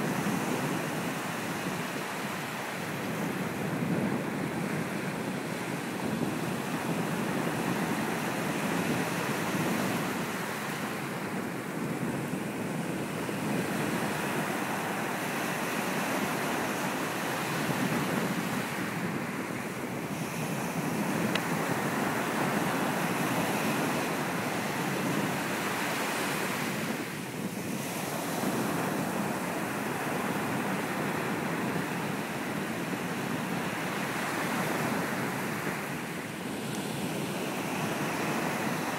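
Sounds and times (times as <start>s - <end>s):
ocean surf breaking on sand: 0.0s - 38.9s.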